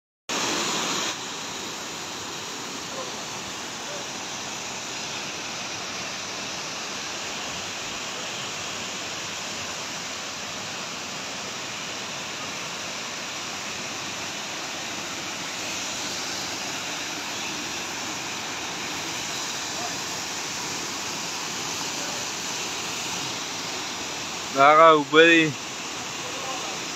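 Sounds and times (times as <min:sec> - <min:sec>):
waterfall rushing: 0:00.3 - 0:26.9.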